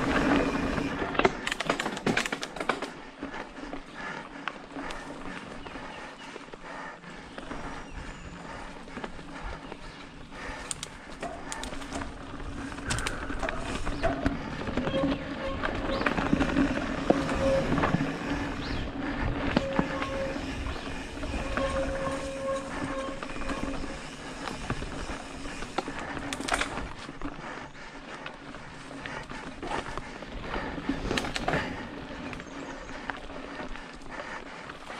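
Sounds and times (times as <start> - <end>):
bike rattling over bumps: 0.0 - 34.9
bike tyres on dirt trail: 0.0 - 34.9.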